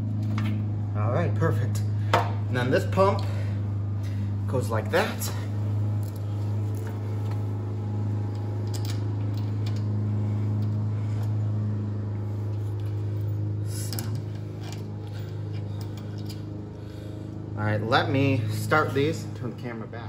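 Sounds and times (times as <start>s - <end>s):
low mechanical hum of a motor: 0.0s - 20.0s.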